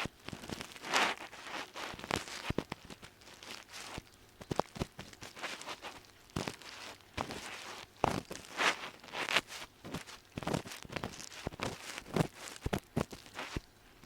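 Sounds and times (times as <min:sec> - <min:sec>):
ear pick scraping inside ear: 0:00.0 - 0:04.0, 0:05.0 - 0:13.7.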